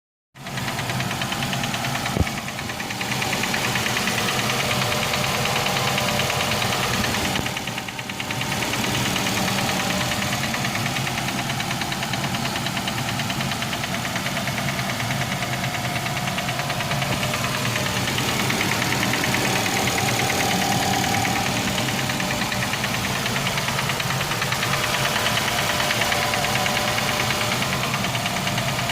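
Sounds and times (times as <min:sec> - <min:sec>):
engine running with fast knock: 0:00.4 - 0:28.9.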